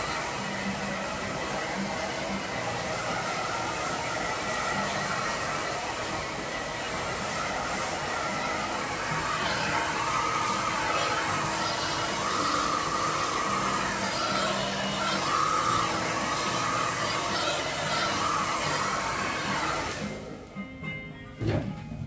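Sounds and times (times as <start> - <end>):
electric blower air rush: 0.0 - 20.3.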